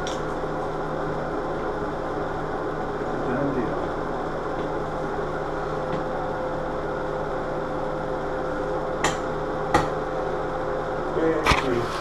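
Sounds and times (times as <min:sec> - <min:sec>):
mechanical hum with faint whir: 0:00.0 - 0:12.0.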